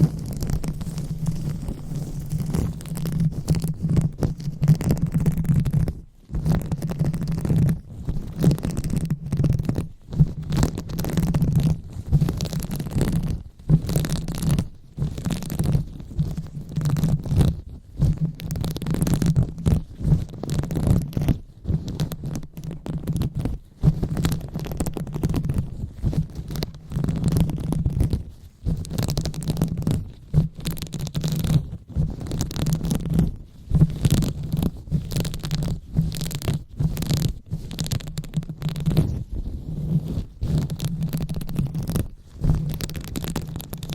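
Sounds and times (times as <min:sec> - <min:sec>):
hands rubbing on microphone: 0:00.0 - 0:43.9.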